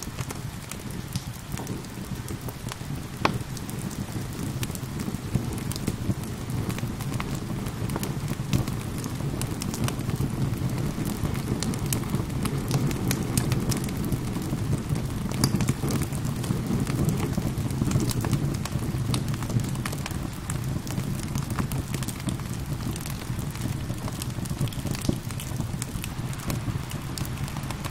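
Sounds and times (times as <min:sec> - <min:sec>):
gentle rain: 0:00.0 - 0:27.9
wood fire crackling: 0:00.0 - 0:27.9.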